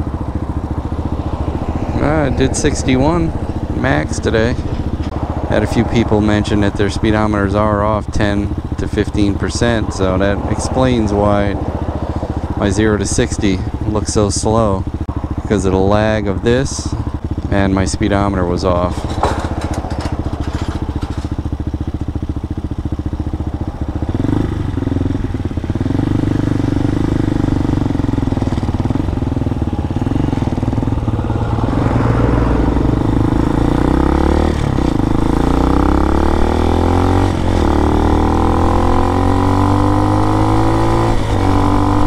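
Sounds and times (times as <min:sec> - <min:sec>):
motorcycle accelerating through gears: 0:00.0 - 0:42.0
motorcycle engine idling and revving: 0:00.0 - 0:42.0.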